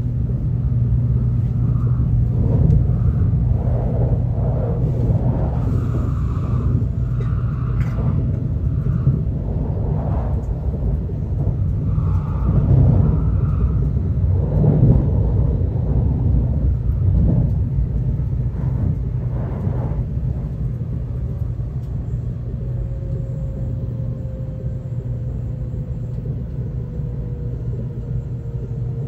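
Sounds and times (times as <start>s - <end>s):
train rumble inside passenger car: 0.0s - 29.0s.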